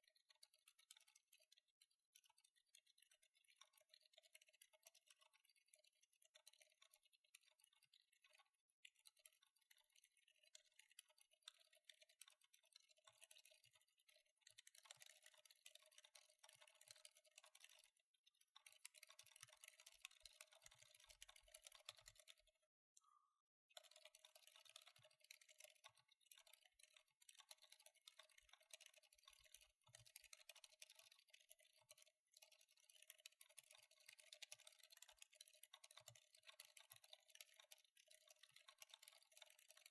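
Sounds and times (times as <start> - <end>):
soft mechanical keyboard typing: 0.0 - 23.2, 23.8 - 39.9.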